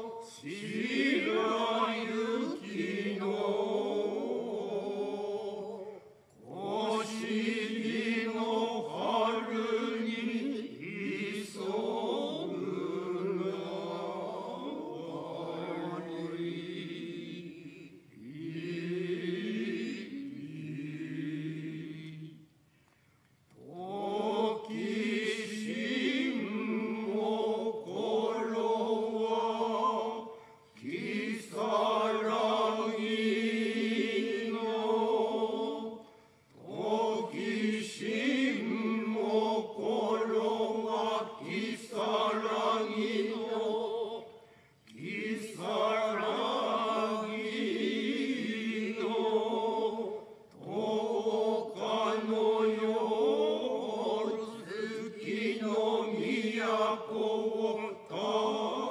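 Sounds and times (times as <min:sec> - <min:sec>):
group chanting in unison: 0:00.0 - 0:22.4, 0:23.6 - 0:58.9.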